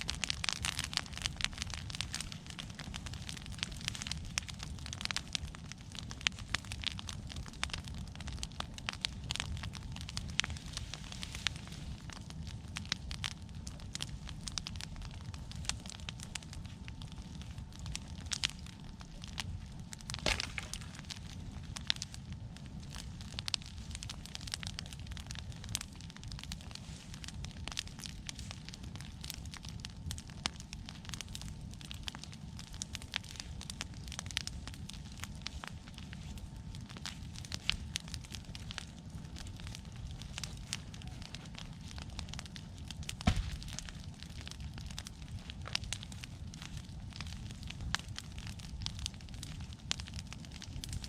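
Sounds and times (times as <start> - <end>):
fire popping: 0.0 - 51.0
low fire rumble: 0.0 - 51.0
wood fire crackling: 0.0 - 51.0.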